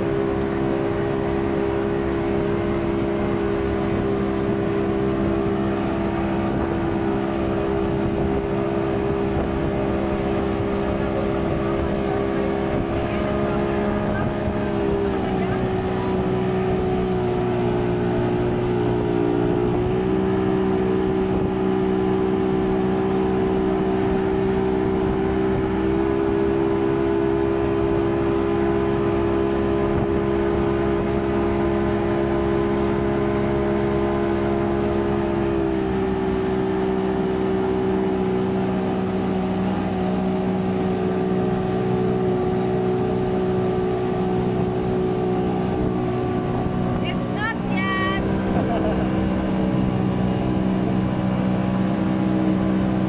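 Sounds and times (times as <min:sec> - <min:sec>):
speedboat engine droning: 0:00.0 - 0:53.0
wind: 0:00.0 - 0:53.0.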